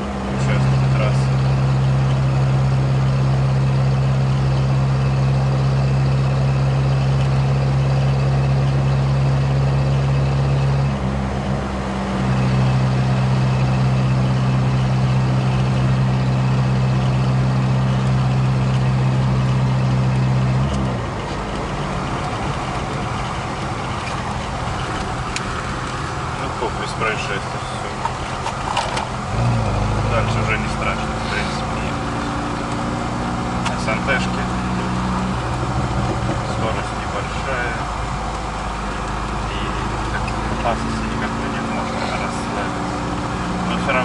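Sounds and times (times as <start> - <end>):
car engine droning: 0.0 - 44.0
road and tyre noise: 0.0 - 44.0.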